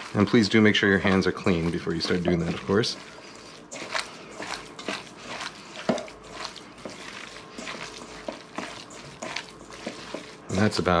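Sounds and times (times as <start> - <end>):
eggs squelching in a bowl: 0.0 - 11.0.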